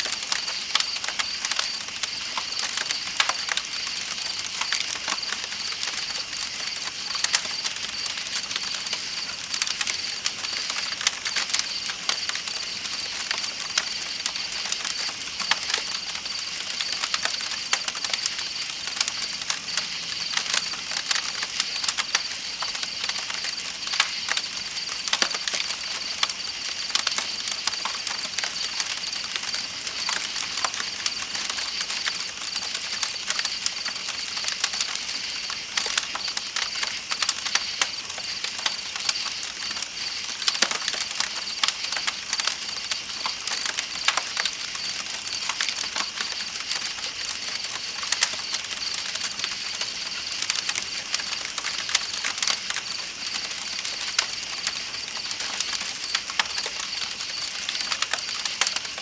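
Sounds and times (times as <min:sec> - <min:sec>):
campfire crackling: 0:00.0 - 0:59.0
night insects chirping: 0:00.0 - 0:59.0.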